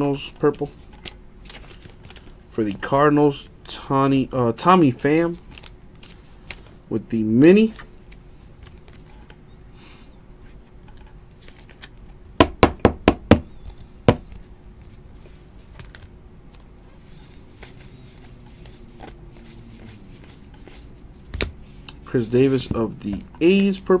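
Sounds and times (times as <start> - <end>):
rustling of cards sorted by hand: 0.0 - 9.6, 10.4 - 12.2, 13.5 - 24.0.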